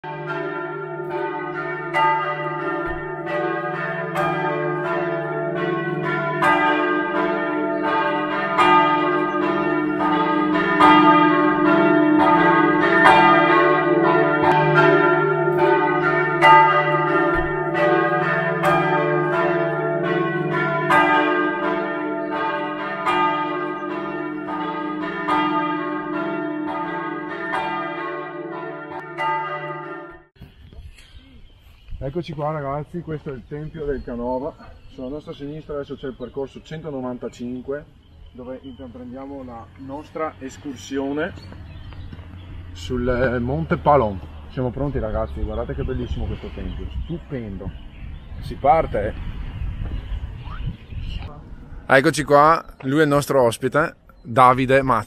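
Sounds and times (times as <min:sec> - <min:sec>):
church bells ringing: 0:00.0 - 0:30.4, 0:32.5 - 0:50.4.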